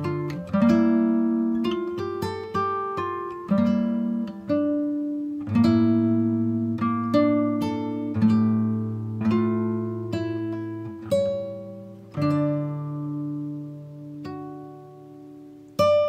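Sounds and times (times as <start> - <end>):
plucked acoustic guitar melody: 0.0 - 16.0.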